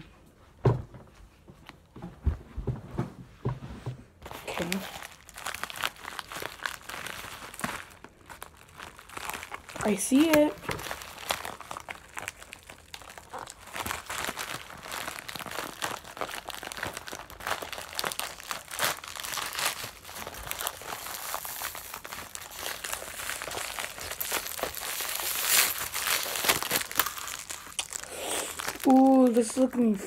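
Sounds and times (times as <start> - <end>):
paper and plastic crinkling: 4.2 - 30.0.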